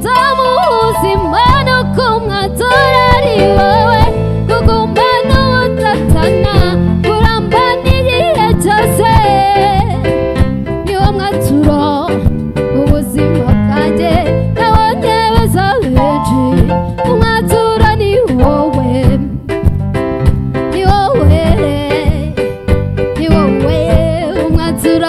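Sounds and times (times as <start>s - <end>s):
woman singing into microphone: 0.0s - 10.1s, 10.8s - 19.4s, 20.7s - 22.5s, 23.2s - 25.0s
live band playing: 0.0s - 25.0s.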